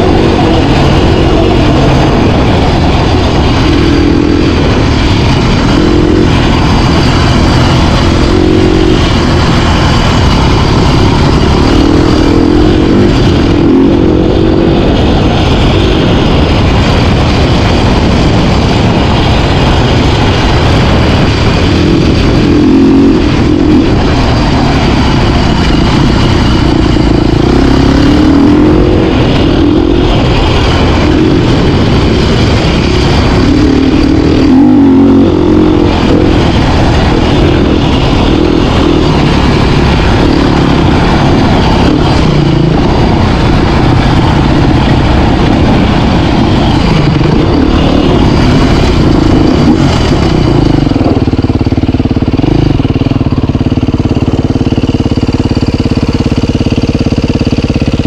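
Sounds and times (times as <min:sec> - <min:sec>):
off-road motorcycle engine revving: 0:00.0 - 0:58.0.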